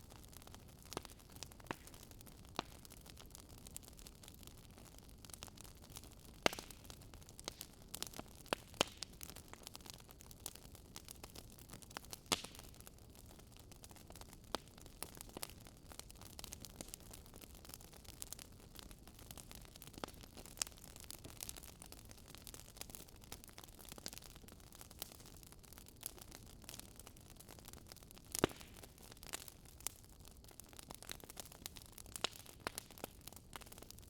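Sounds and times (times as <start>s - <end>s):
firewood crackling: 0.0s - 34.0s.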